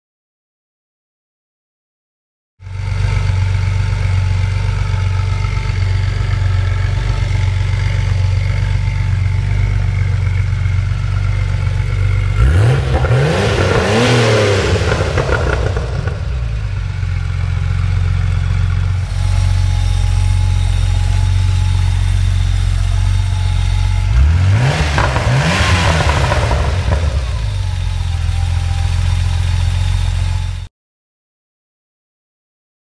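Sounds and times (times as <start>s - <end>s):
car engine idling and revving: 2.6s - 30.7s.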